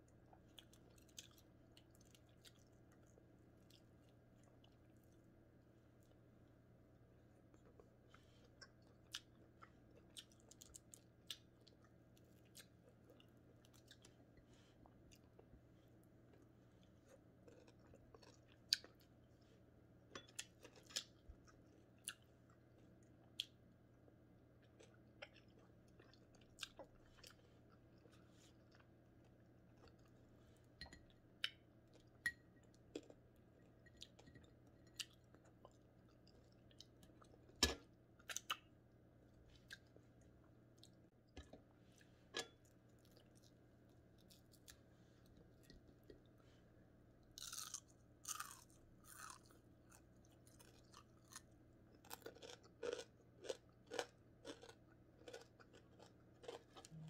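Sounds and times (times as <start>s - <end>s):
chewing crispy fried fish: 0.0s - 6.3s, 7.3s - 46.4s, 47.2s - 57.0s
faint steady hum: 0.0s - 57.0s.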